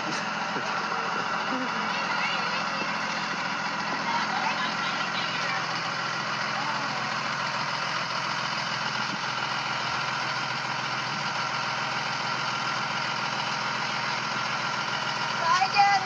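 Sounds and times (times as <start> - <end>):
bus engine idling: 0.0 - 16.0.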